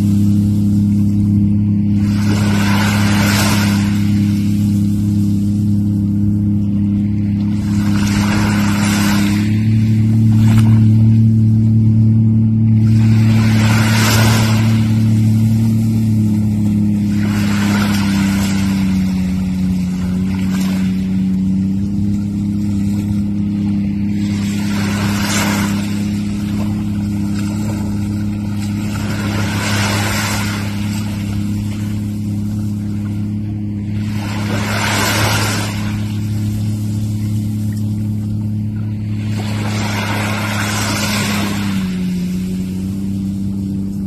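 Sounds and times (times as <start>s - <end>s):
jet ski engine running: 0.0s - 44.0s
water spray whooshes: 0.0s - 44.0s.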